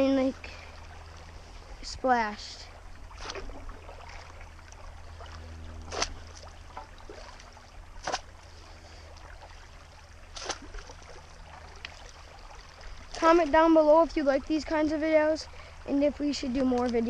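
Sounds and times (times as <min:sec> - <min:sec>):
short splashes: 0:00.0 - 0:13.8
creek water trickling: 0:00.0 - 0:17.0.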